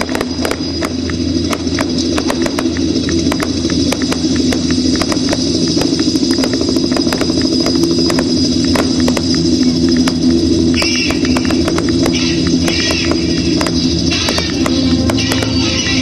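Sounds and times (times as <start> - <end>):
fireworks popping and banging: 0.0 - 16.0
low drone: 0.0 - 16.0.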